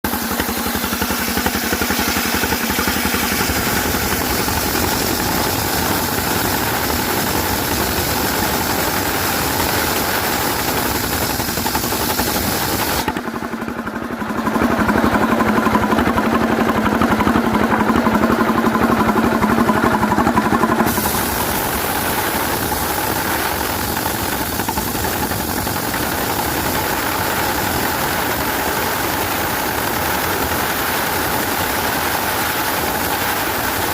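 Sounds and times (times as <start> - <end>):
sawmill machinery engine running: 0.0 - 33.9.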